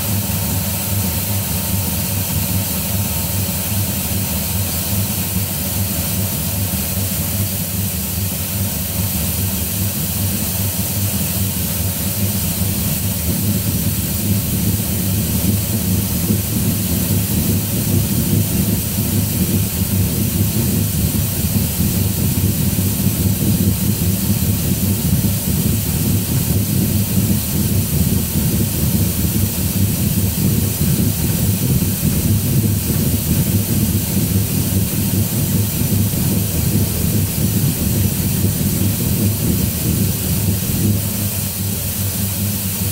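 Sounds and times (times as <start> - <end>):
hissing mist spray: 0.0 - 42.9.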